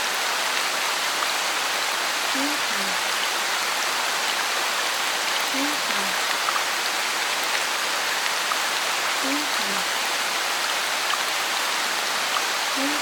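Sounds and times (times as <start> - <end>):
rain-like hiss: 0.0 - 13.0.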